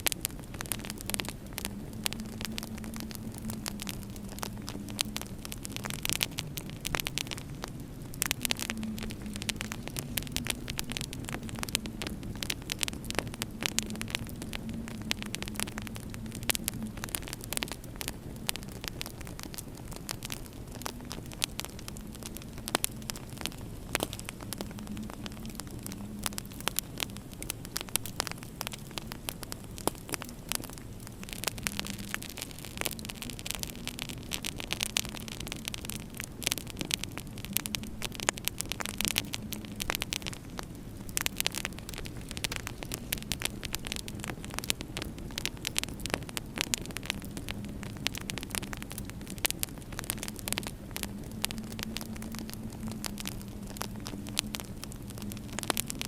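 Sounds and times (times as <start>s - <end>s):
steady low hum: 0.0s - 56.0s
wood fire crackling and popping: 0.0s - 56.0s.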